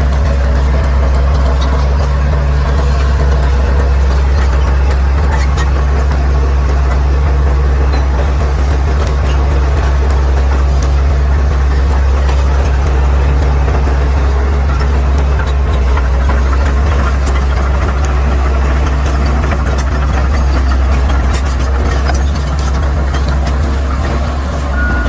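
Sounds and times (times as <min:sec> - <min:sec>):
bulldozer diesel engine drone: 0:00.0 - 0:25.0.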